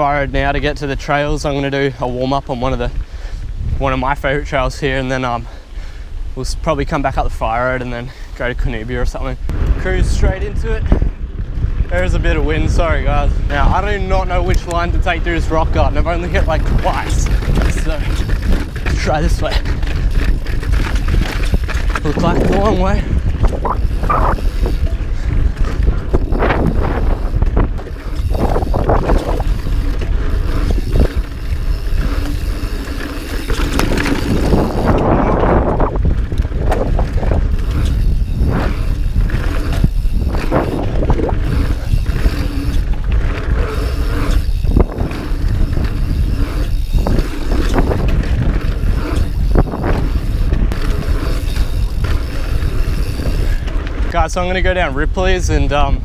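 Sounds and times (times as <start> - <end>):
wind buffeting microphone: 0.0 - 56.0
bike knocking and rattling: 9.1 - 56.0.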